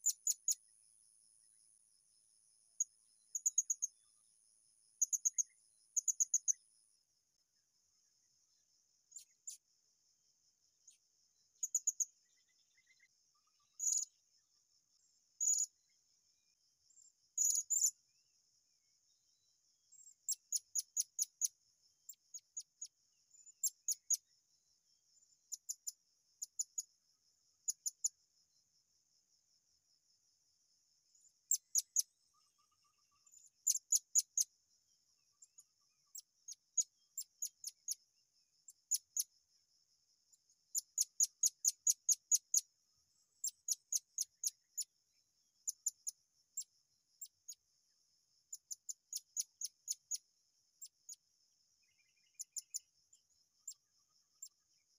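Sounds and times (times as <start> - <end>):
insect drone: 0.0 - 54.9
small birds chirping: 0.0 - 54.9.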